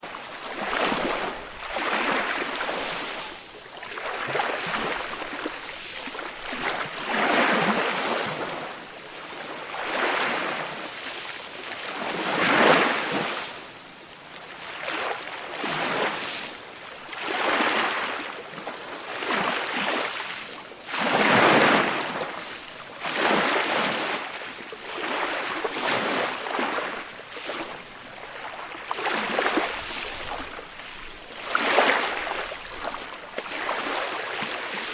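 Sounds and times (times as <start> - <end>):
waves washing in: 0.0 - 34.9.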